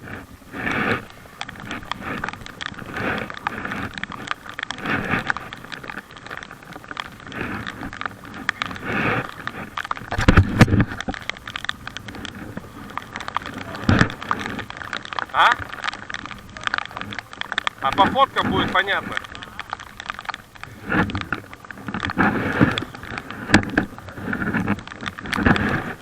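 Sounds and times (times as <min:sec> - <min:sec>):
paddle strokes splashing in water: 0:00.0 - 0:26.0.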